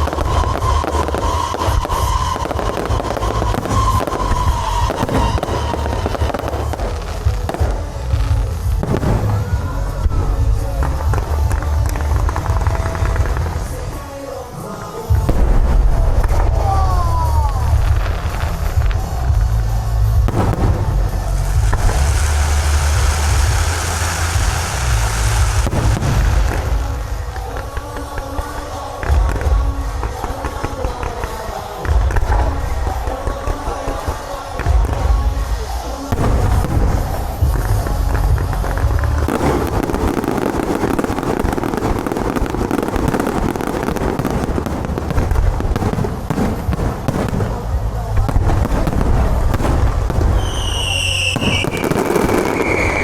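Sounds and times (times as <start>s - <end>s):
rumble of firework booms: 0.0s - 14.0s, 15.1s - 53.0s
sharp firework bangs: 0.0s - 14.3s, 20.1s - 53.0s
crackling hiss: 0.0s - 16.6s, 17.3s - 53.0s.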